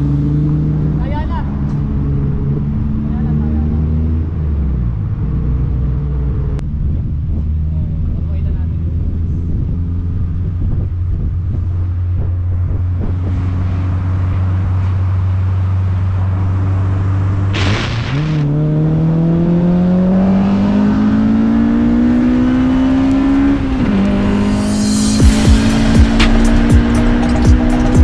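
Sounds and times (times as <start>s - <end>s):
car engine and exhaust: 0.0s - 28.0s.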